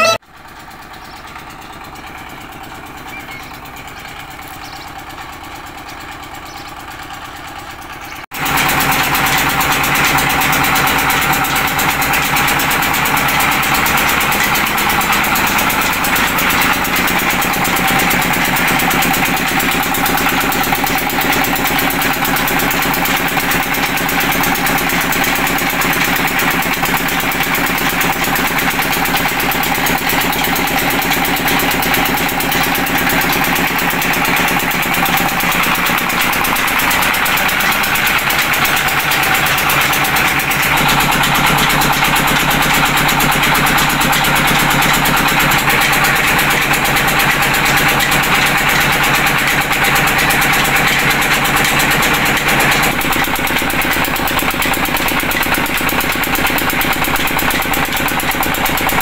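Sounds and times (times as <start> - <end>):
stationary diesel engine running: 0.0 - 59.0.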